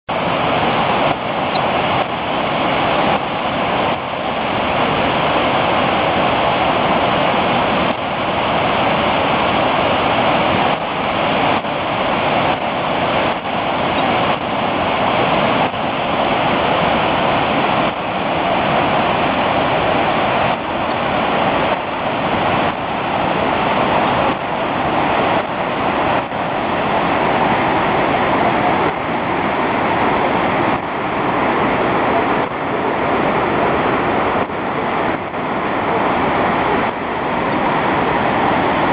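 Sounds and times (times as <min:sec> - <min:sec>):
waterfall crashing onto rocks: 0:00.1 - 0:38.9.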